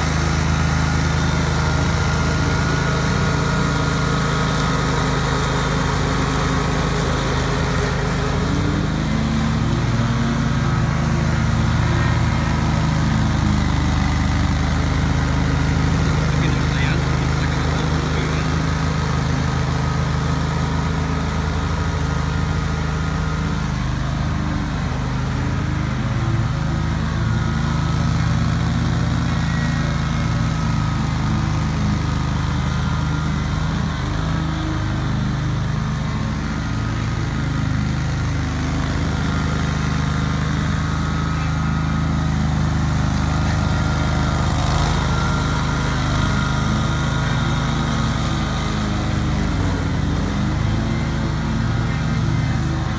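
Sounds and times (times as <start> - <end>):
lawn mower engine running: 0.0 - 52.9.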